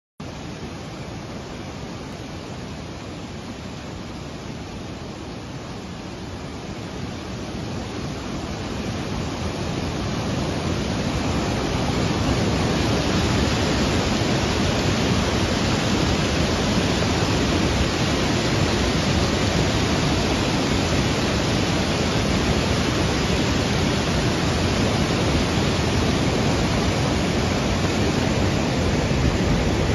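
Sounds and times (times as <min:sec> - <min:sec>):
floodwater rushing: 0:00.2 - 0:29.9.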